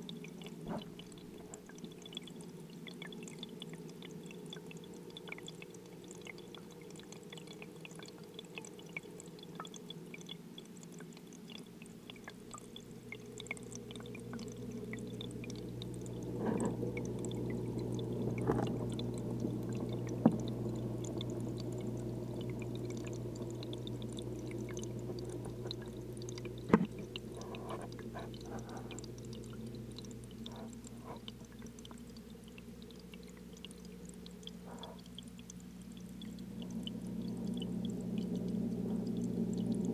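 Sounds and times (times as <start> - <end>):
aquarium filter humming: 0.0 - 39.9
water circulating: 0.0 - 39.9.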